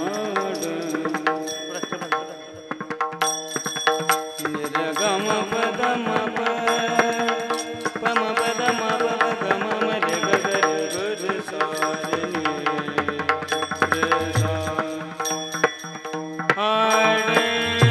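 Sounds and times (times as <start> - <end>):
devotional singing: 0.0 - 2.0, 4.4 - 15.5, 16.6 - 17.9.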